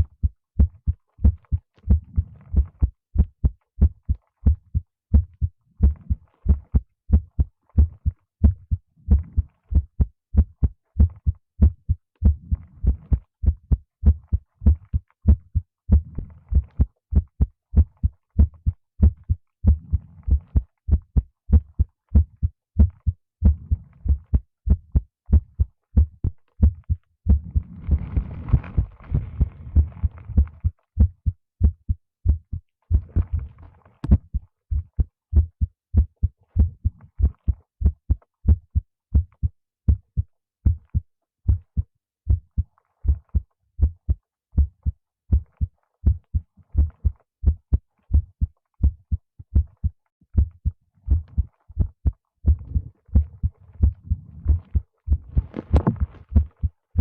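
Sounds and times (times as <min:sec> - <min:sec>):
heartbeat thumps: 0:00.0 - 0:57.0.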